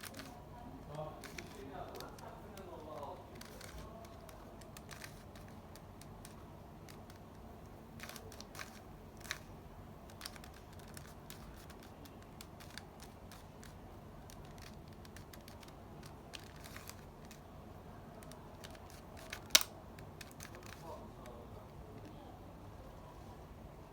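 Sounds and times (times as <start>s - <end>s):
plastic clicks of puzzle cube: 0.0s - 9.5s, 10.1s - 17.5s, 18.1s - 21.4s.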